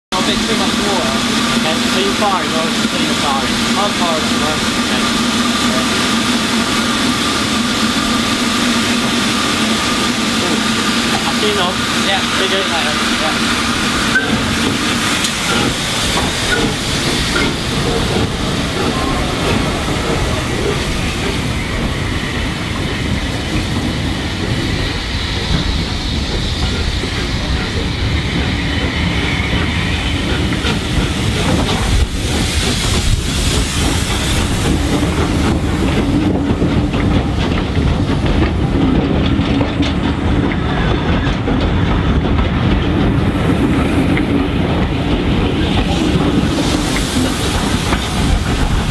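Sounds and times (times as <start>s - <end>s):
steam locomotive pulling away: 0.1s - 48.9s
steam hissing: 0.2s - 41.2s, 41.8s - 48.9s
train wheels clicking over rail joints: 0.2s - 48.9s.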